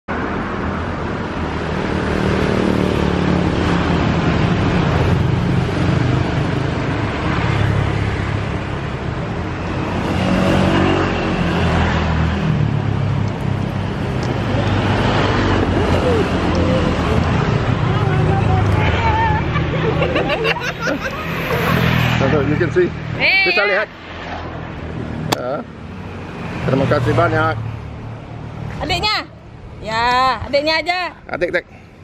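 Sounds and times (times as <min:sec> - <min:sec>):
road traffic engine drone: 0:00.1 - 0:32.0.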